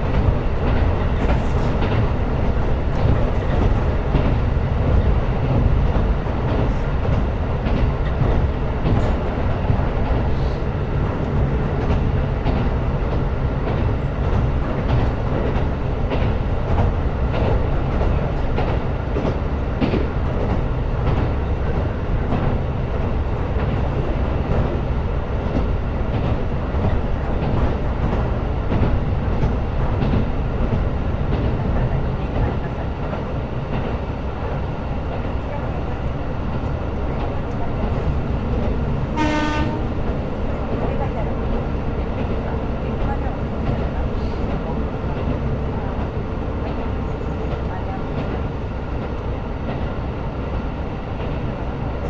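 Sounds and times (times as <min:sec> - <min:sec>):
railcar engine and wheels rumbling: 0:00.0 - 0:52.0.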